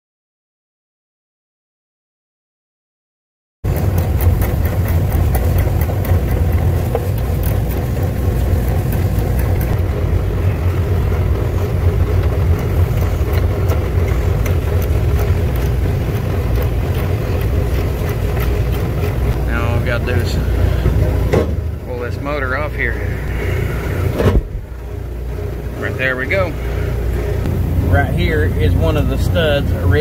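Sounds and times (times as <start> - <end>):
machinery rumbling: 3.6 - 30.0.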